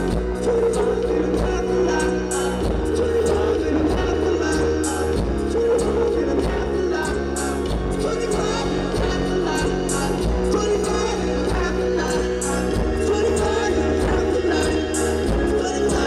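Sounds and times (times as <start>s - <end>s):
live pop-rock music: 0.0s - 16.0s.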